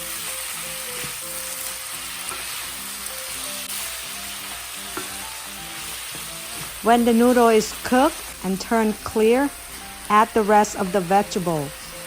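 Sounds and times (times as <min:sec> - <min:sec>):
food sizzling in a stir-fry pan: 0:00.0 - 0:12.0
soft background music: 0:00.0 - 0:12.0.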